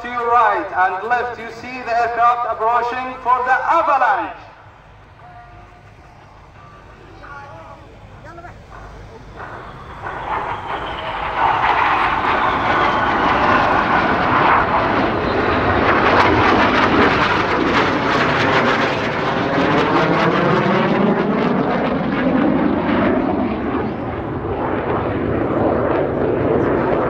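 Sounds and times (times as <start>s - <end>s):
jet aircraft flying past: 0.0s - 27.0s.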